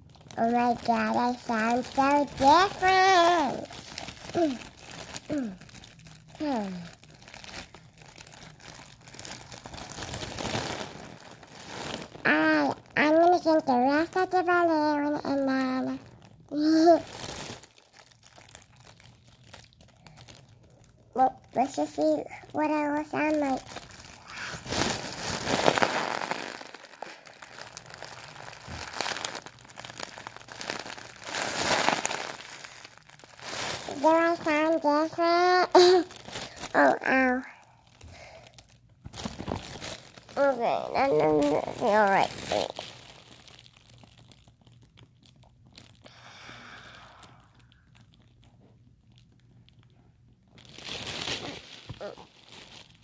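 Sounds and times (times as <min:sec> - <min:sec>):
faint steady hum: 0:00.0 - 0:53.0
foil balloon crinkling: 0:00.0 - 0:53.0.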